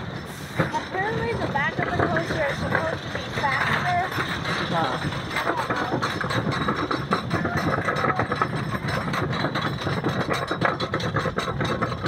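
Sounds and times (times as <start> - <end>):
anti-rollback dogs clacking: 0.0 - 12.0
lift chain rumbling: 0.0 - 12.0.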